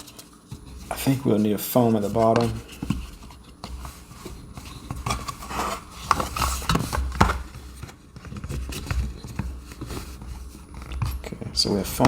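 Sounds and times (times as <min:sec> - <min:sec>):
rubbing and scuffing: 0:00.0 - 0:12.0.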